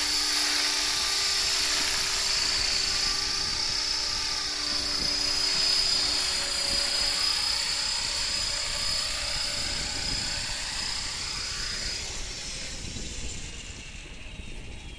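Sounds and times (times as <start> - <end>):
electric motor whine: 0.0 - 14.9
rotor blades whirring: 0.0 - 14.9.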